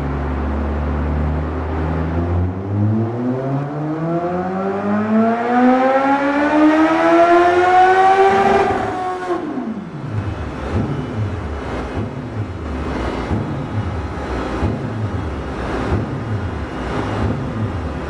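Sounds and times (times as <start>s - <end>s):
motorcycle engine revving: 1.7s - 18.0s.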